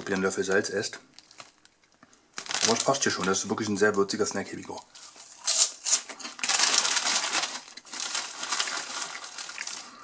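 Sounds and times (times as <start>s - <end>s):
snack bag crinkling: 0.0s - 3.6s, 4.9s - 10.0s.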